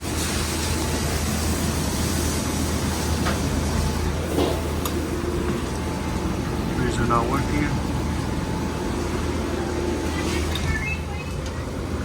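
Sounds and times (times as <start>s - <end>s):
freezer running with low hum: 0.0s - 12.0s.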